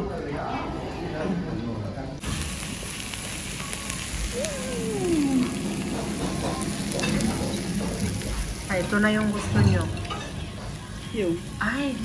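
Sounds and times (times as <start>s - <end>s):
food sizzling on hot plate: 2.2s - 12.0s.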